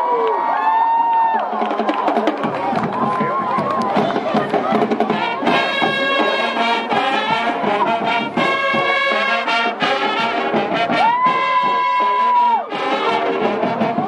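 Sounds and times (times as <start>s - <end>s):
marching band playing: 1.4s - 14.0s.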